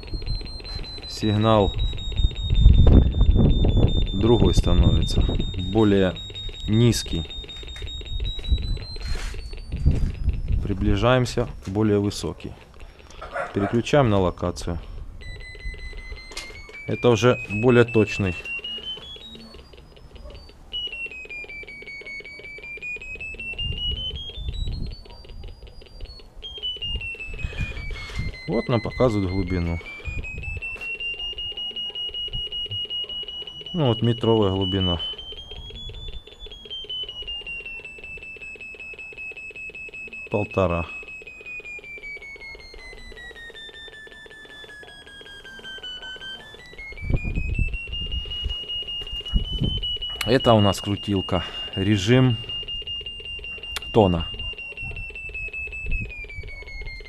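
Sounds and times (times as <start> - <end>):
locator receiver beeping: 0.0 - 57.0.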